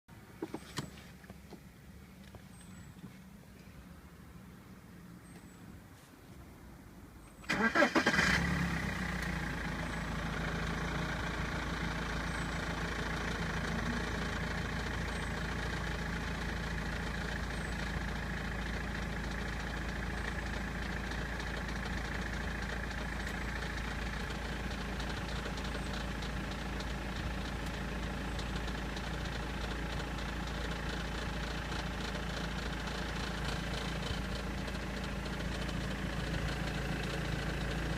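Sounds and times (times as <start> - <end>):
diesel engine cranking and idling: 6.9 - 37.9
engine rattle: 7.3 - 37.9.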